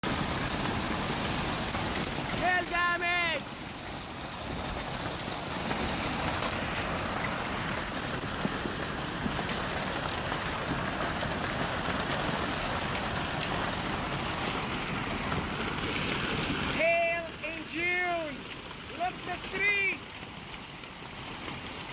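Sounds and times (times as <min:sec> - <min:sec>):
hail striking hard surfaces: 0:00.0 - 0:21.9.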